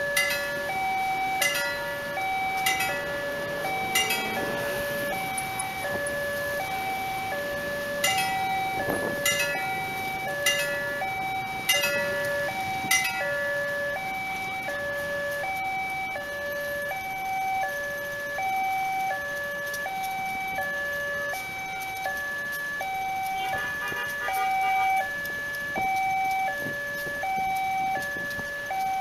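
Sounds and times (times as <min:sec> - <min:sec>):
level crossing two-tone alarm: 0:00.0 - 0:29.0
road traffic passing: 0:00.0 - 0:29.0.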